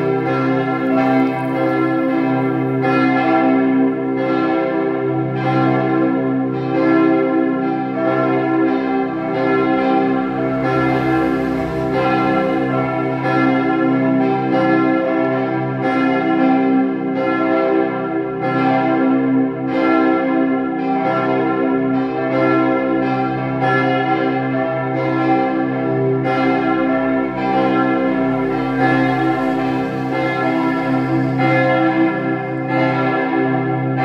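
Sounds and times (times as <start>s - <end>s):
church bells ringing in a peal: 0.0s - 34.0s.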